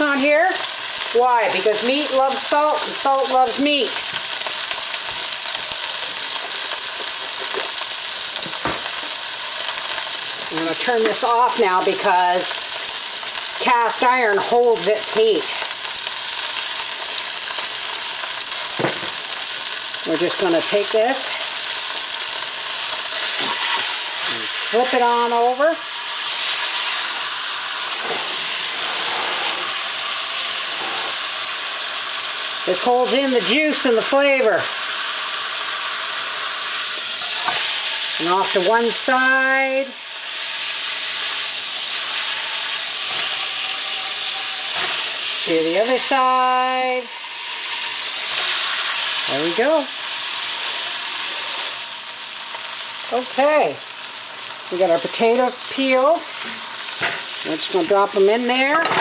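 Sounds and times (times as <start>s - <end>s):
meat sizzling in hot fat: 0.0s - 58.8s.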